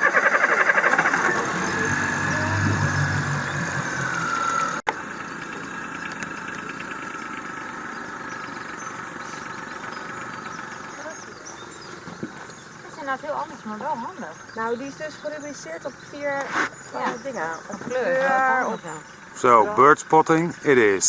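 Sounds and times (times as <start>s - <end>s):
engine starting and running fast: 0.0s - 21.0s
engine running quietly: 0.1s - 21.0s.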